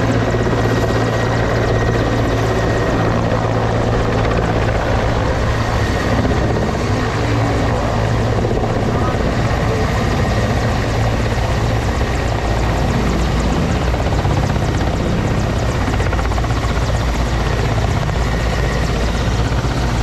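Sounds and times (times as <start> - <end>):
helicopter rotor blades chopping: 0.0 - 20.0
turbine engine noise: 0.0 - 20.0.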